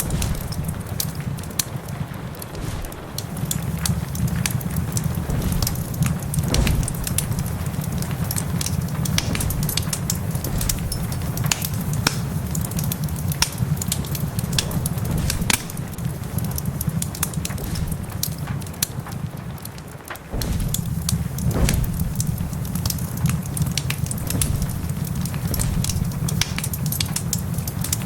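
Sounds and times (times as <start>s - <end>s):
low rumble: 0.0s - 19.6s, 20.2s - 28.0s
rain hissing: 0.0s - 28.0s
wood fire crackling: 0.0s - 28.0s.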